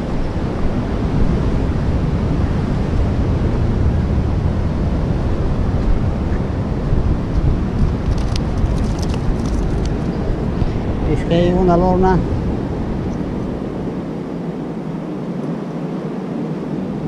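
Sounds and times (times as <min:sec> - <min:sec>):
surf washing on shore: 0:00.0 - 0:17.0
wind rumbling on microphone: 0:00.0 - 0:17.0.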